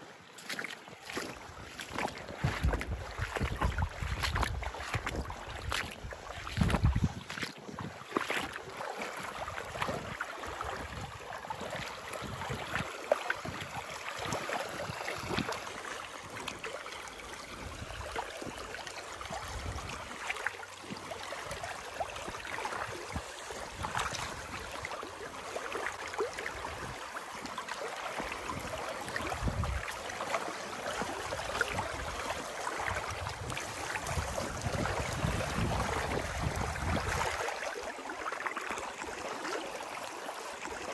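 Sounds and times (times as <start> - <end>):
people wading through water: 0.0 - 40.9.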